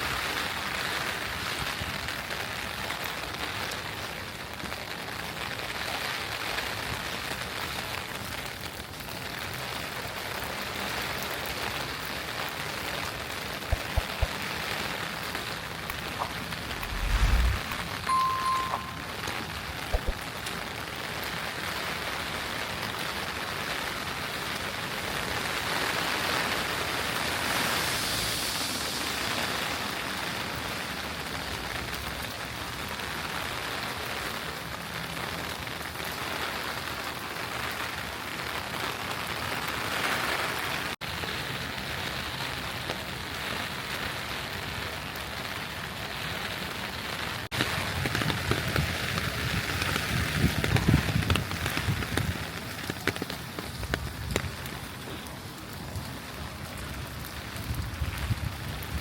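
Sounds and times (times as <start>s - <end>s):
rain falling on city surfaces: 0.0s - 59.0s.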